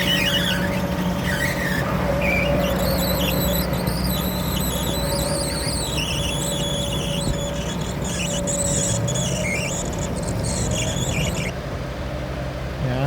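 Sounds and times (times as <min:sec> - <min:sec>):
machine parts squealing: 0:00.0 - 0:11.6
harvester droning: 0:00.0 - 0:13.0.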